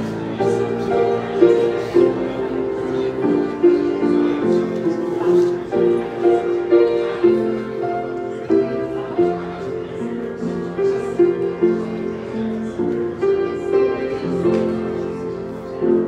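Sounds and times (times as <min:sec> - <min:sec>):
grand piano melody: 0:00.0 - 0:16.0.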